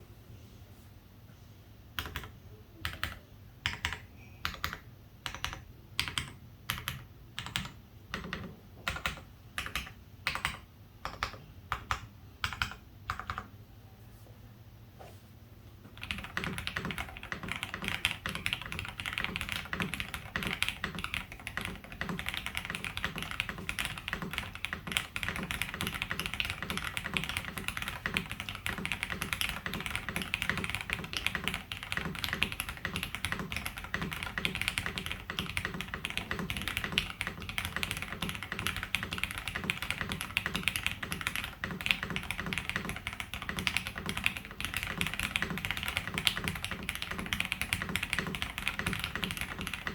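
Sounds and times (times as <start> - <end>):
fast mechanical keyboard typing: 2.0 - 13.5, 16.0 - 49.9.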